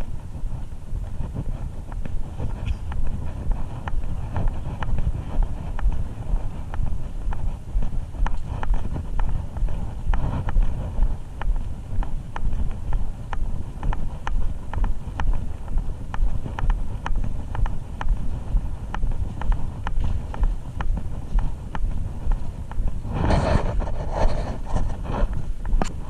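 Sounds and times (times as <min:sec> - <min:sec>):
footsteps walking: 0:00.0 - 0:26.0
wind rumble on microphone: 0:00.0 - 0:26.0.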